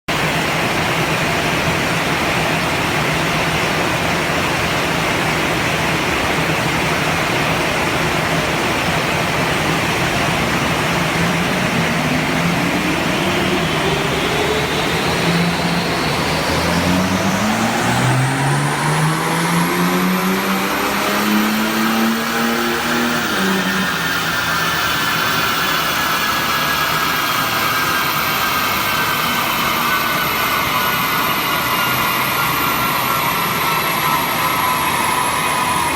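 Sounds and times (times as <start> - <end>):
diesel engine under full load: 0.1 - 35.9
dyno rollers and fan rushing: 0.1 - 35.9
high whine: 0.1 - 35.9.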